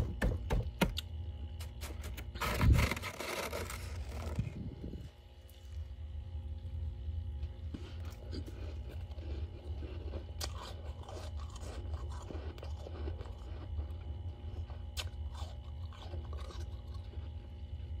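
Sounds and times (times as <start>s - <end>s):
steady low hum: 0.0s - 18.0s
frost crunching while chewed: 1.0s - 18.0s.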